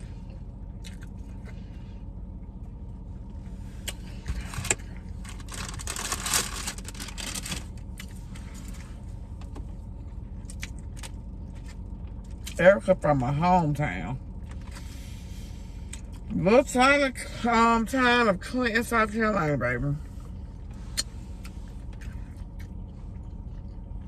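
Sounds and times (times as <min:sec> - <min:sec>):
low hum inside a car: 0:00.0 - 0:24.0.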